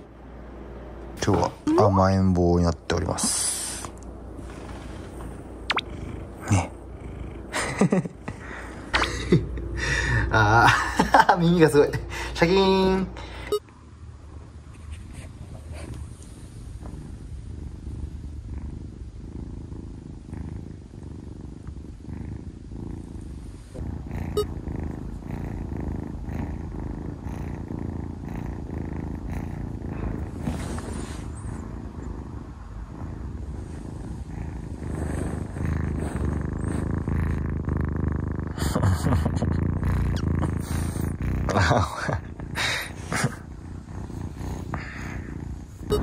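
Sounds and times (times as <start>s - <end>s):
kitten purring: 1.2s - 13.6s, 15.0s - 46.0s.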